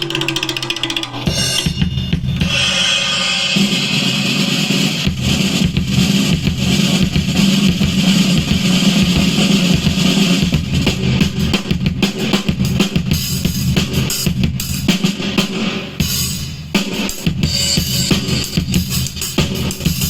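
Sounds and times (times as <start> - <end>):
music with drum beat: 0.0 - 20.0.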